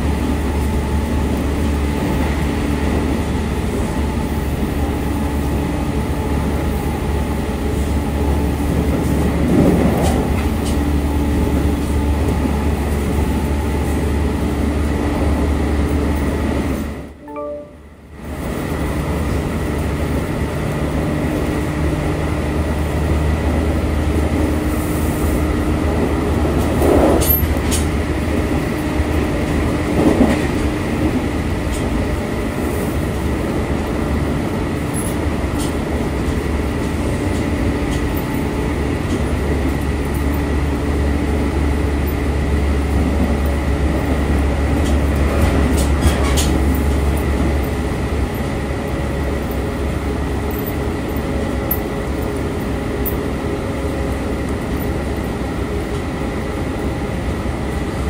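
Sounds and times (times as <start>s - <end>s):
electric train wheels rumbling: 0.0s - 17.2s, 18.0s - 58.0s.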